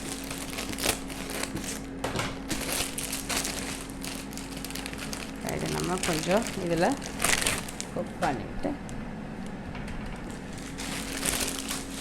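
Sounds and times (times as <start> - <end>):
packaging crinkling and rustling: 0.0 - 8.0, 10.1 - 12.0
steady low hum: 0.0 - 12.0.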